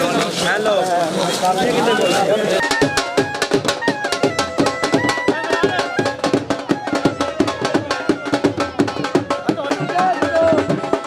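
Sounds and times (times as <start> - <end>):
dhol drums beating: 1.8 - 11.0.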